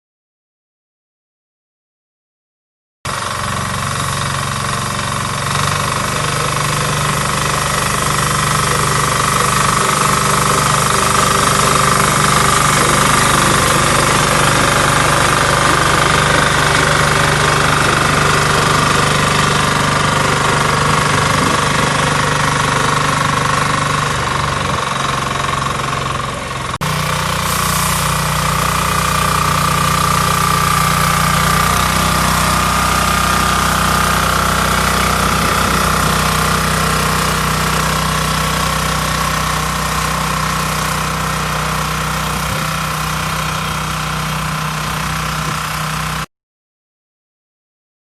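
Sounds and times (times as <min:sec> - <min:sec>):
diesel engine clattering: 0:03.1 - 0:46.3.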